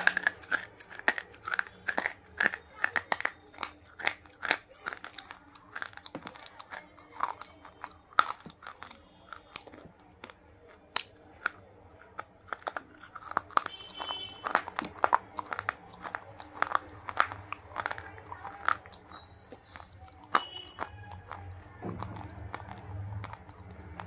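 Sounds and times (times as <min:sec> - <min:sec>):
crunchy bar biting and chewing: 0:00.0 - 0:24.0.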